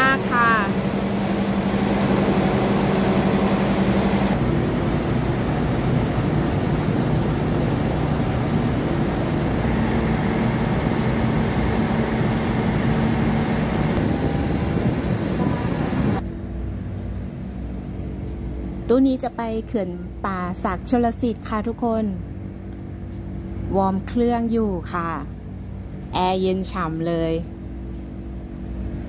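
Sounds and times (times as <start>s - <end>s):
diesel train engine running: 0.0s - 29.0s
quiet hum inside train coach: 0.0s - 29.0s.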